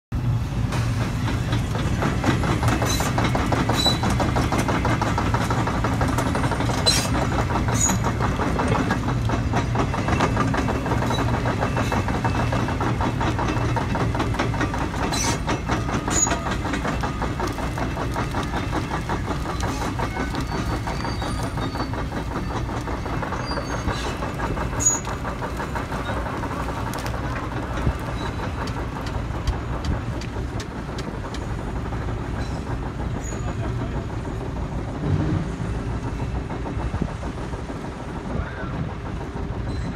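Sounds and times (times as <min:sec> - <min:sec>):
diesel engine running: 0:00.1 - 0:39.9
steel tracks clanking: 0:00.1 - 0:39.9
track squeaks: 0:00.5 - 0:39.9.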